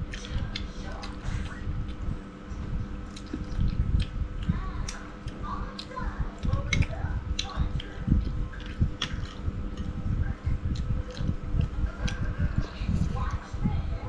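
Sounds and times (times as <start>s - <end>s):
chewing and mouth smacks: 0.1s - 13.4s.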